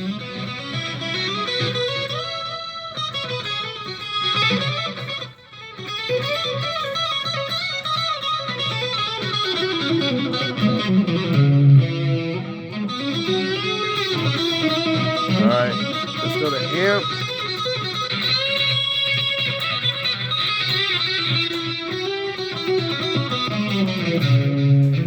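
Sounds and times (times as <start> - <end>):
electric guitar with chorus effect: 0.0 - 25.0.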